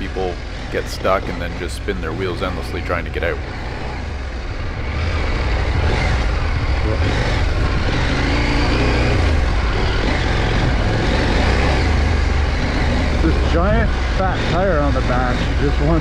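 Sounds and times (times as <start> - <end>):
low rumble: 0.0 - 16.0
motorcycle engine running: 0.0 - 16.0.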